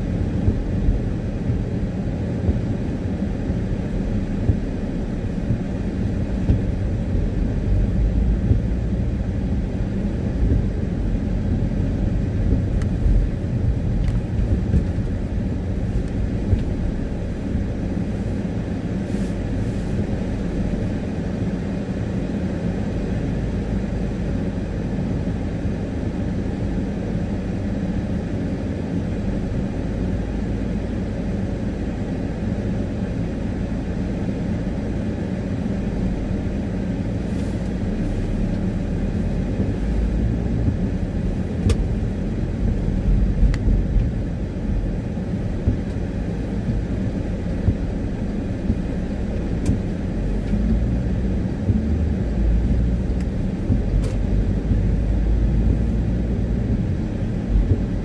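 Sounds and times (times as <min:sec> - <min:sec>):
car engine rumble: 0:00.0 - 0:58.0.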